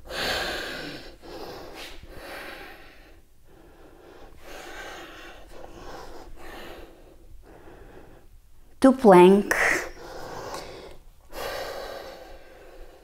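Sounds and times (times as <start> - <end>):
woman breathing heavily: 0.0 - 8.7, 9.5 - 13.0.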